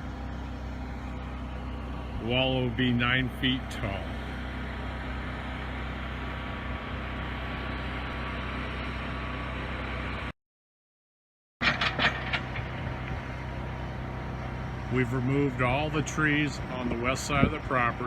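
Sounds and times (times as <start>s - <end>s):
engine running: 0.0s - 10.3s, 11.6s - 18.0s
outdoor noise: 0.0s - 10.3s, 11.6s - 18.0s.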